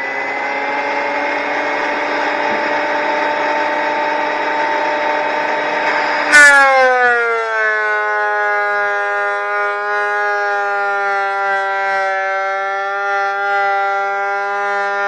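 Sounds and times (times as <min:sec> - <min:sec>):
planer whining: 0:00.0 - 0:15.0.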